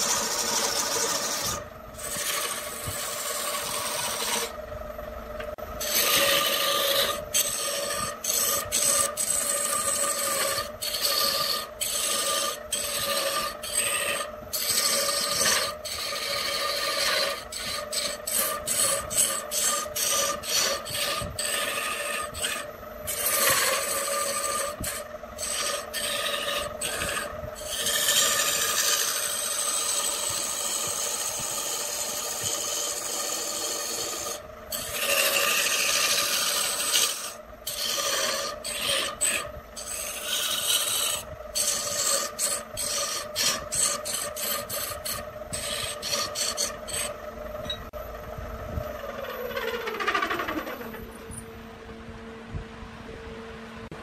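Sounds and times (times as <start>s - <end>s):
lathe tool cutting wood: 0.0s - 4.7s, 5.4s - 47.2s, 48.8s - 51.0s
lathe motor humming: 0.0s - 51.4s.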